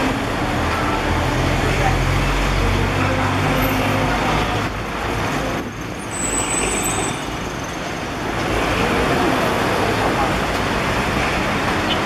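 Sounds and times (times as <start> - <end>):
bus engine humming: 0.0 - 12.0
traffic driving by: 0.0 - 12.0.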